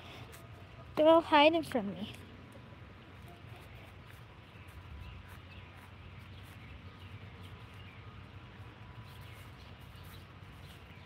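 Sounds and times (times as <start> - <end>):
faint birds chirping: 0.0 - 11.0
low outdoor rumble: 0.0 - 11.0.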